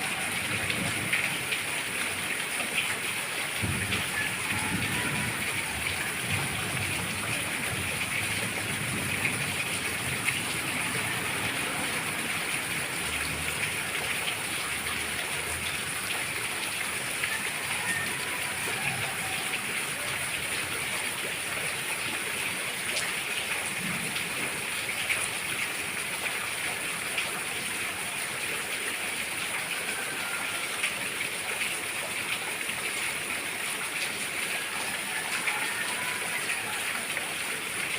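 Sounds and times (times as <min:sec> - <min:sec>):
rain drops ticking: 0:00.0 - 0:37.9
steady rain: 0:00.0 - 0:37.9.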